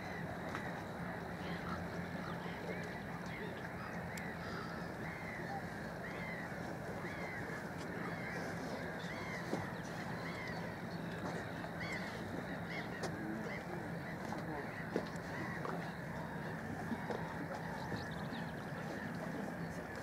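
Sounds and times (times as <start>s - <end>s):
flock of gulls calling: 0.0s - 20.0s
steady background noise: 0.0s - 20.0s.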